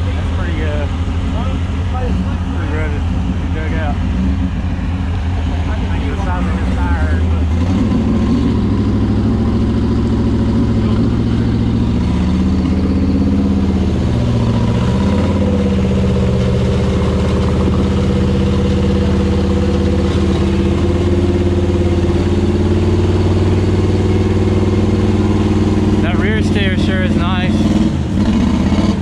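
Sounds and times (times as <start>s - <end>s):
buggy engine running: 0.0s - 29.0s.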